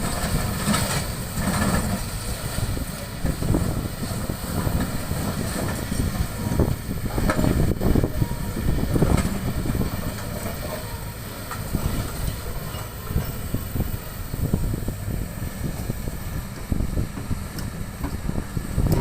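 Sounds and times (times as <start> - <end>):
excavator engine rumble: 0.0 - 19.0.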